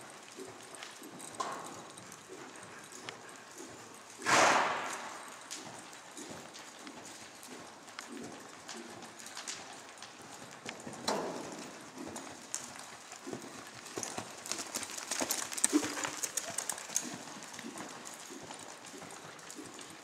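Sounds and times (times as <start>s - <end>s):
horse hoofbeats on sand: 0.0s - 20.0s.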